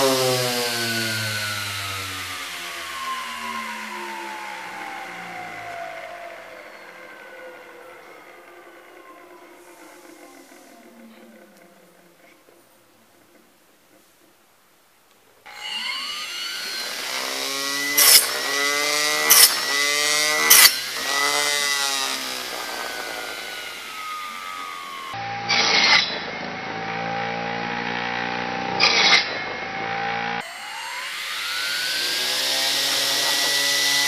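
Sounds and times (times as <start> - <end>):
motor-driven saw blade whining: 0.0 - 14.4, 15.4 - 34.0
saw cutting wooden sticks: 0.0 - 14.4, 15.4 - 34.0.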